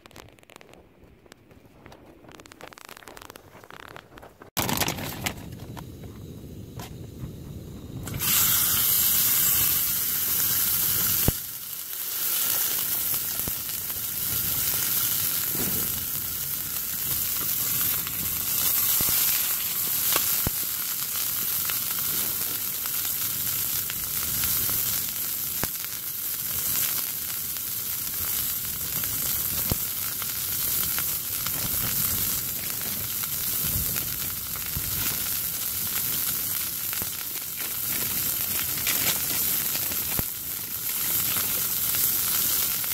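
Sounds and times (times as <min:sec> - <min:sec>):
oil crackles: 0:00.0 - 0:06.2, 0:08.0 - 0:42.9
steak sizzling in hot oil: 0:08.0 - 0:42.9.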